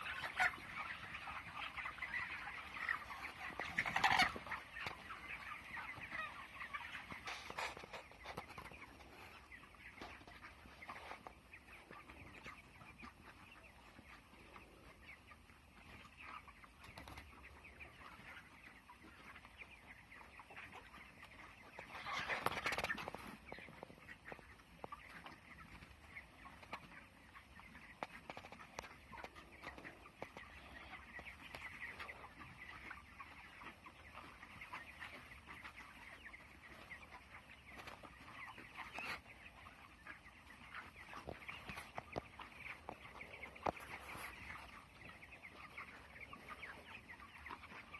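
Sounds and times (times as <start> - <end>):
chickens chirping and clucking: 0.0 - 47.9.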